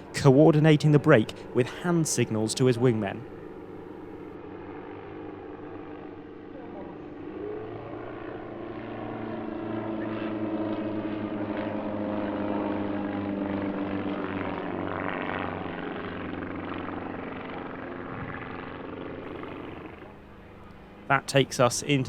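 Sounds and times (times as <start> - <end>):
light aircraft engines droning: 0.0 - 22.0.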